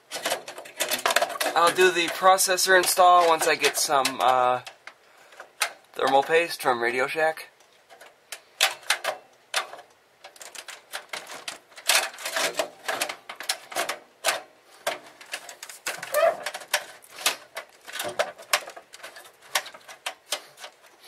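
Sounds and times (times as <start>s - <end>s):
computer parts clicking and scraping: 0.0s - 6.6s, 7.7s - 21.0s.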